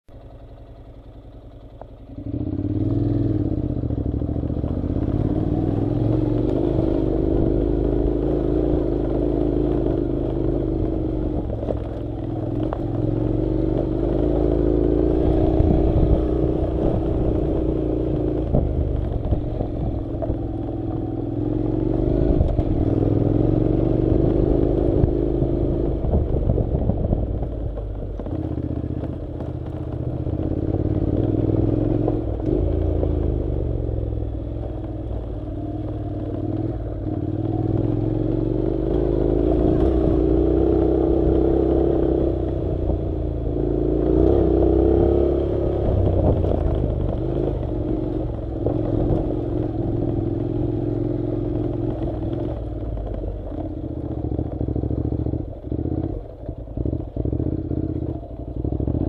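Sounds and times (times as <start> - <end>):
motorcycle engine revving: 0.2 - 59.0.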